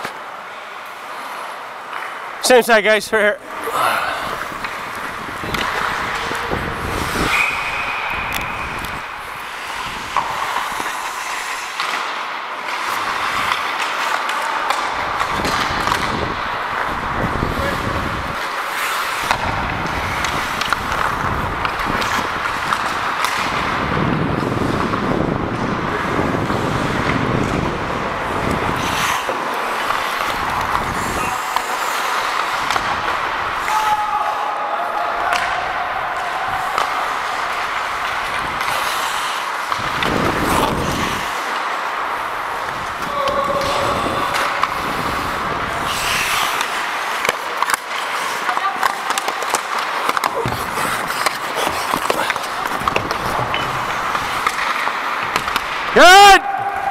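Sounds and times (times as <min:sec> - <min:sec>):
skates scraping on ice: 0:00.0 - 0:02.7, 0:03.4 - 0:56.9
hockey sticks and puck knocking: 0:04.3 - 0:56.9.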